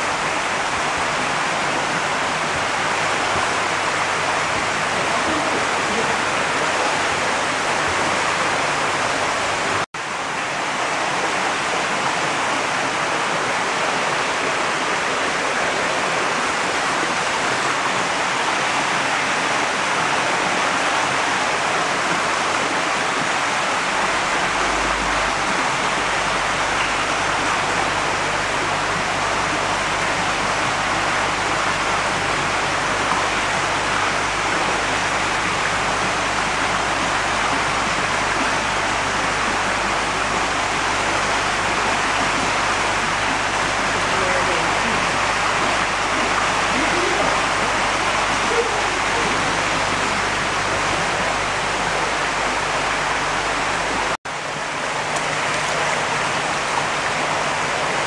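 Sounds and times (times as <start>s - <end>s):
water pouring and splashing: 0.0s - 58.0s.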